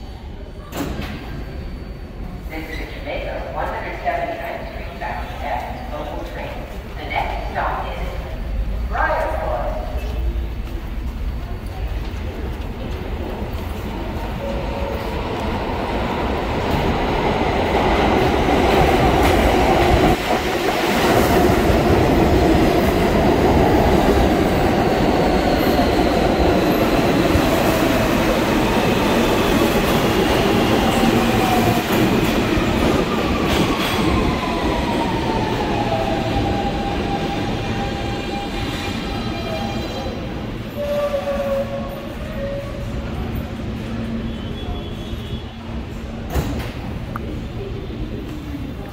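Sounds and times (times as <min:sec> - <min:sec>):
subway train wheels on rails: 0:00.0 - 0:48.9.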